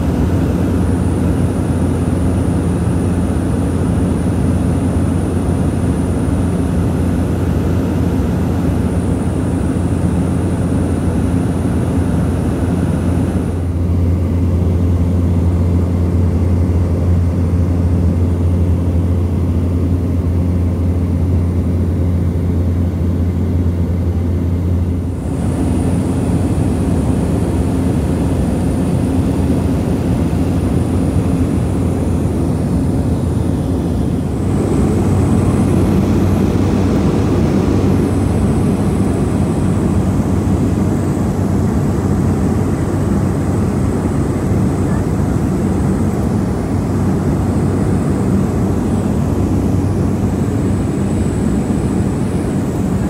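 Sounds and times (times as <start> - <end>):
propeller engines droning: 0.0 - 53.0.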